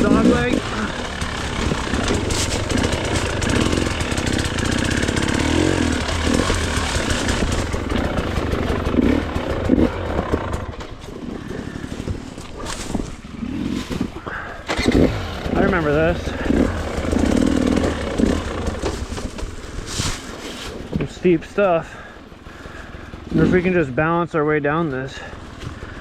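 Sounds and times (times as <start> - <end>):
dirt bike engine revving: 0.0 - 20.4, 21.2 - 23.9.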